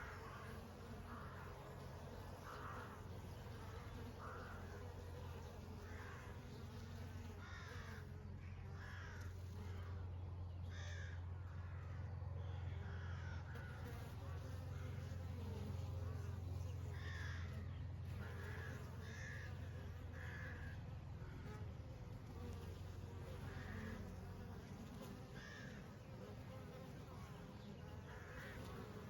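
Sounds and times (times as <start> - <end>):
honey bees humming: 0.0 - 29.0.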